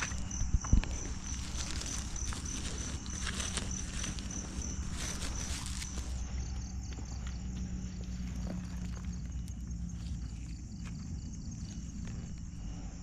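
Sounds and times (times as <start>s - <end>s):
footsteps on muddy ground: 0.0s - 12.8s
night insects trilling: 0.0s - 13.0s.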